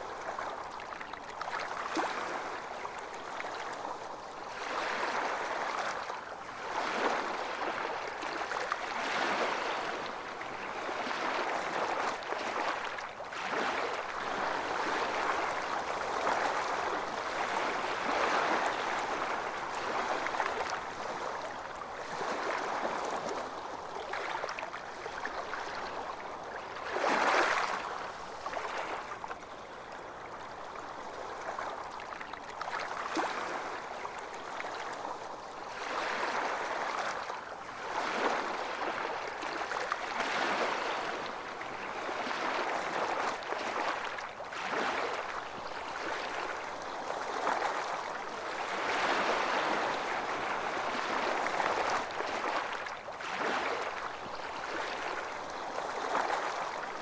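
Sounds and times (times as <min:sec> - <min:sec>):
small waves washing onto beach: 0:00.0 - 0:57.0.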